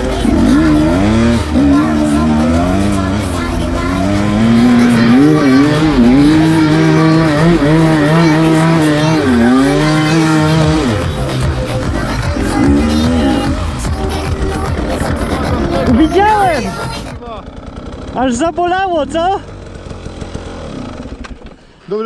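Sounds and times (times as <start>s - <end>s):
motorcycle engine revving: 0.0s - 21.6s.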